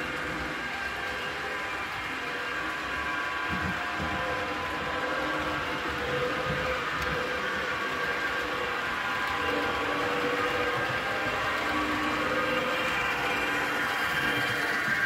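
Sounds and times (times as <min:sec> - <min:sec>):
model train rumbling past: 0:00.0 - 0:15.0.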